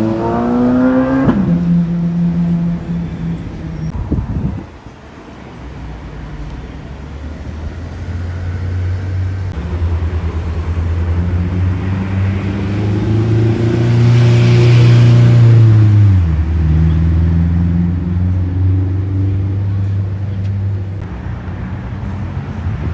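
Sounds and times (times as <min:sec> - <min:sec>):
car engine passing by: 0:00.0 - 0:04.7, 0:06.2 - 0:22.9.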